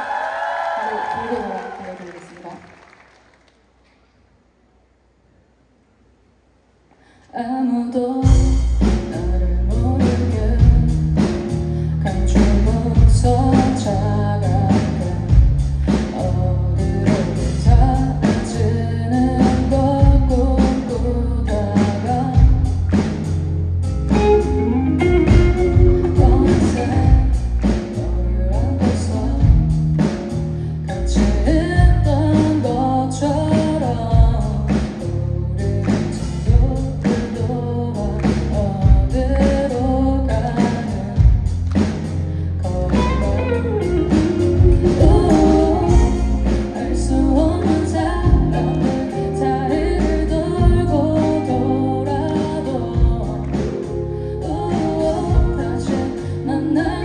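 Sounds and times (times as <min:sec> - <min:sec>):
woman singing: 0:07.3 - 0:23.0, 0:24.1 - 0:29.9, 0:30.9 - 0:41.5, 0:42.6 - 0:57.0
drum kit beat: 0:08.2 - 0:57.0
electric guitar: 0:08.3 - 0:57.0
heavy low bass notes: 0:08.3 - 0:57.0.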